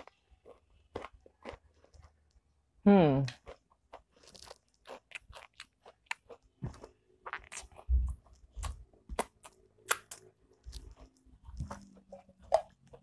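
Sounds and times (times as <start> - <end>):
chewing crisps crunching: 0.0 - 2.4, 3.3 - 13.0.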